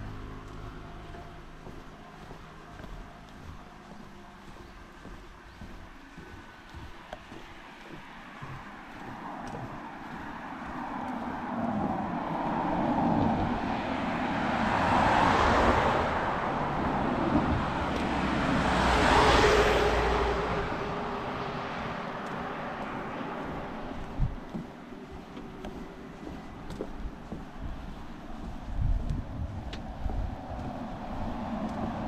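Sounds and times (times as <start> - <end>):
road vehicles passing: 0.0 - 32.0.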